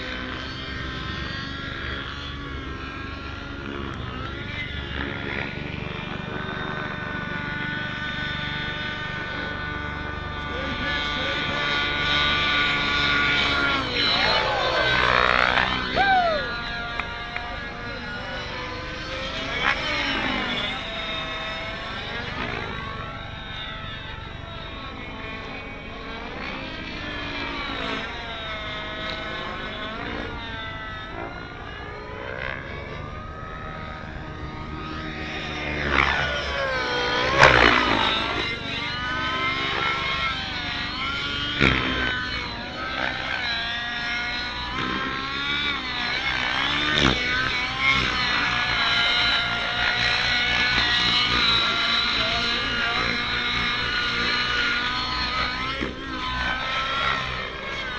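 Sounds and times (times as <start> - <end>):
model helicopter engine and rotors: 0.0 - 57.9.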